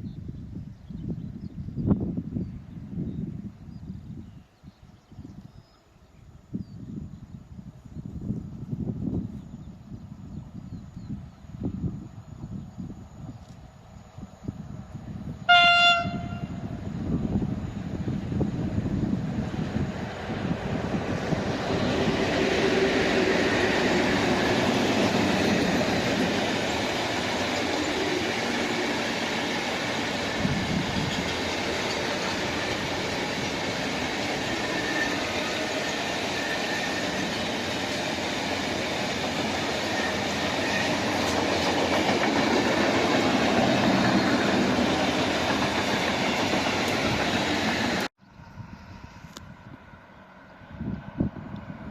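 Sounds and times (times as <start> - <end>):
freight train rolling past: 8.1 - 51.9.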